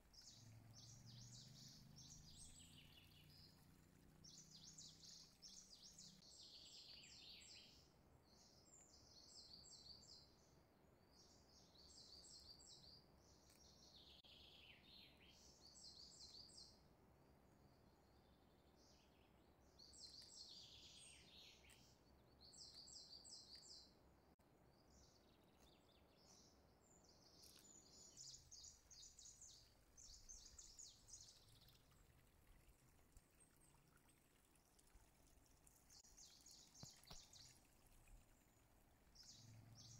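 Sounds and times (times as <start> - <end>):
faint bird song: 0.0 - 39.9.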